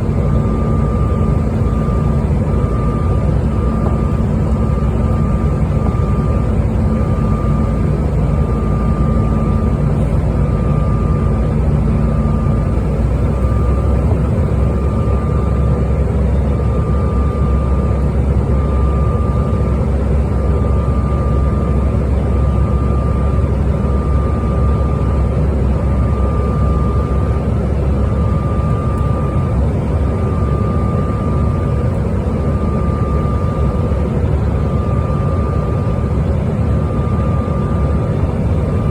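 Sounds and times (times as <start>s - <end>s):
airliner engine and airflow rumble: 0.0s - 38.9s.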